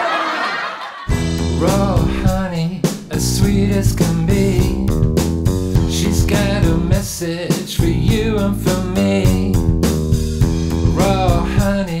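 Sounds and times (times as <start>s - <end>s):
blues guitar and bass music: 1.1s - 12.0s.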